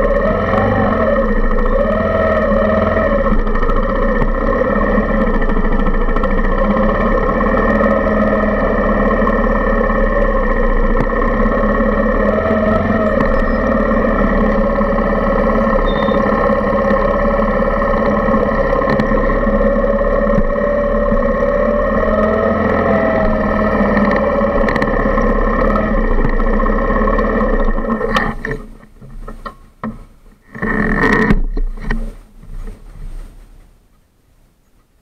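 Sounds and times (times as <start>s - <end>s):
motorcycle engine running: 0.0s - 33.5s.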